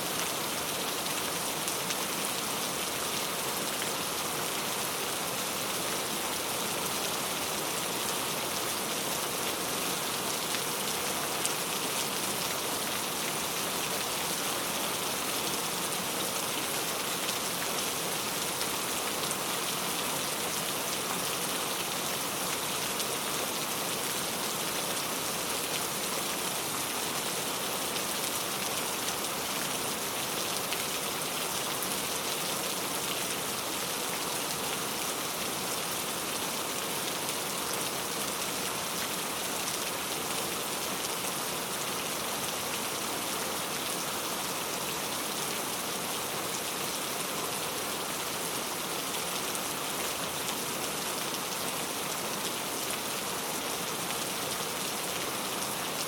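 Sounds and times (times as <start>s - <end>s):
rain pattering on a surface: 0.1s - 56.0s.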